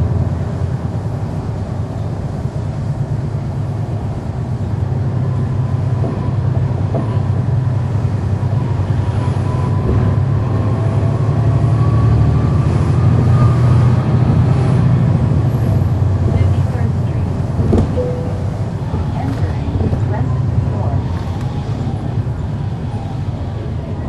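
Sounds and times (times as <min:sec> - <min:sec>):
diesel bus engine running: 0:00.0 - 0:24.0.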